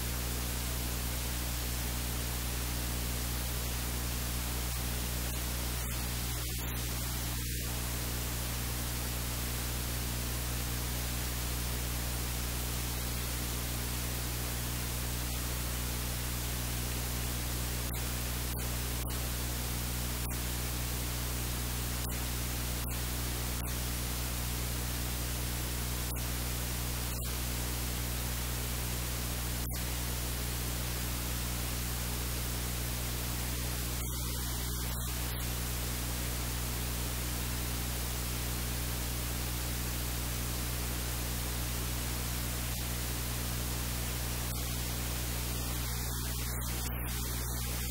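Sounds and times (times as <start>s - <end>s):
low mains hum: 0.0s - 47.9s
static hiss: 0.0s - 47.9s.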